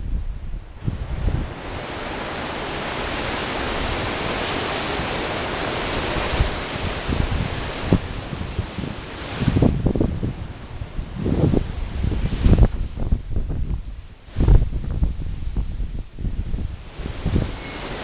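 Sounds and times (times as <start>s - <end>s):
wind buffeting microphone: 0.0s - 18.0s
wind gust rushing: 0.0s - 18.0s.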